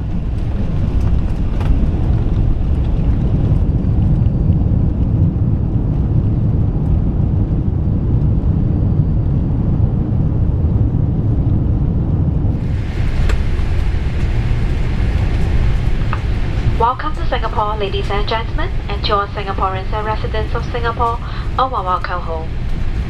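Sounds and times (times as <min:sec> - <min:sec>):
aircraft cabin rumble: 0:00.0 - 0:23.0.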